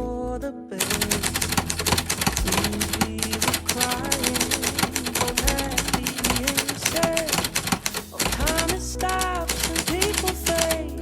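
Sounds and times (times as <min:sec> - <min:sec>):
manual typewriter typing: 0:00.8 - 0:10.9.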